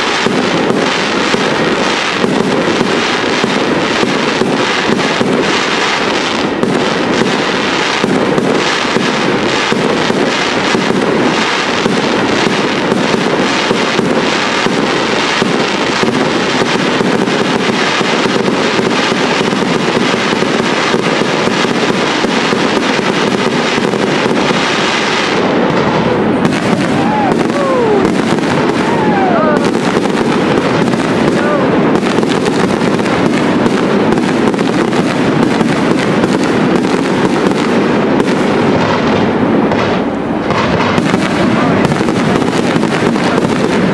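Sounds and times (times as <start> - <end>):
fireworks bursts and crackling: 0.0 - 43.9.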